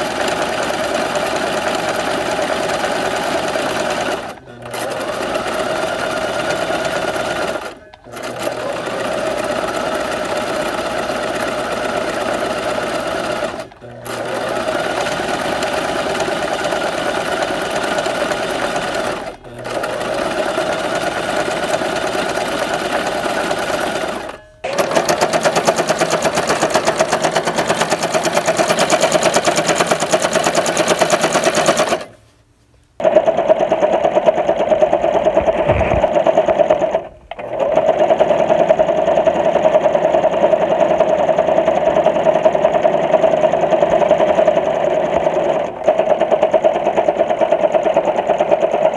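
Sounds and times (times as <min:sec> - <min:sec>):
sewing machine running: 0:00.0 - 0:32.2, 0:33.0 - 0:48.9.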